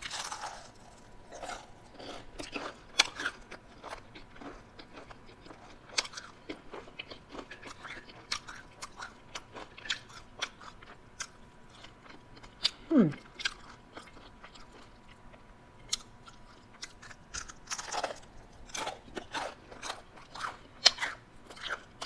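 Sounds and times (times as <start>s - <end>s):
chewing crunchy onion ring: 0.0s - 22.0s.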